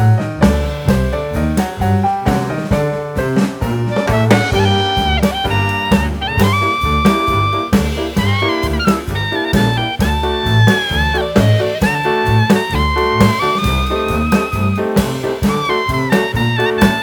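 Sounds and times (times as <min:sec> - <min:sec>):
upbeat jazz with brass lead: 0:00.0 - 0:17.0.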